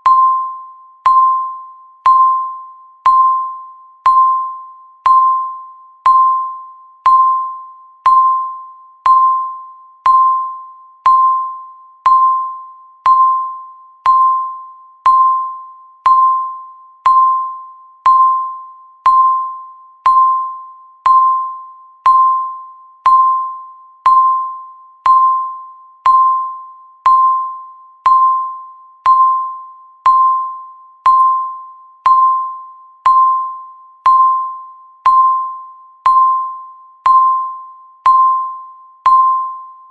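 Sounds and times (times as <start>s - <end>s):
timer ticking bell-like ping: 0.0s - 39.9s.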